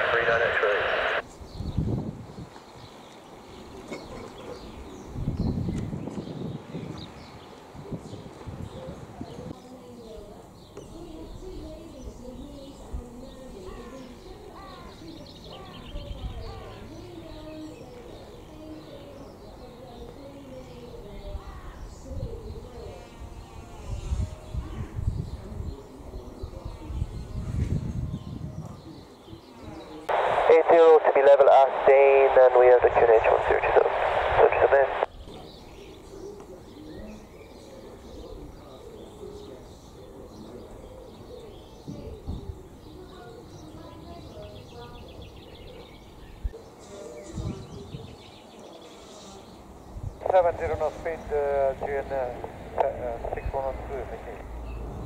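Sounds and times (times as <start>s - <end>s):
birds calling: 0.0s - 23.6s, 28.1s - 55.0s.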